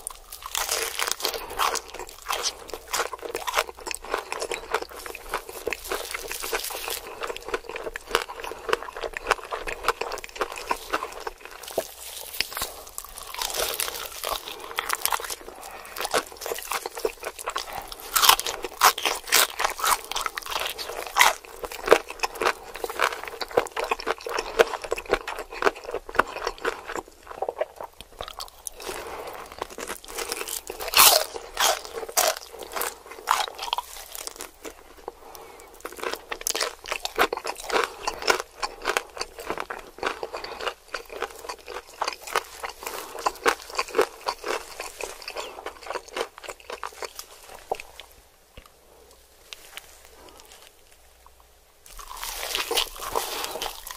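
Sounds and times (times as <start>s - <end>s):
crunching and chewing fried chicken: 0.0s - 53.9s.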